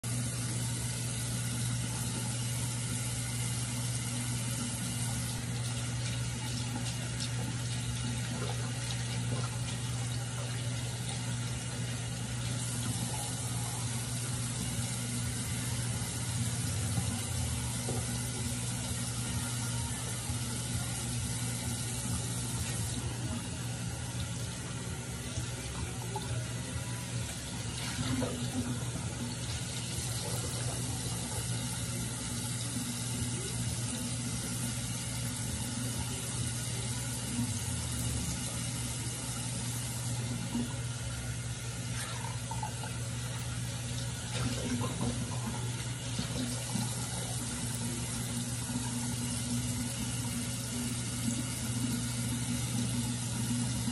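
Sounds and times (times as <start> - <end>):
tap water running into sink: 0.1 - 53.9.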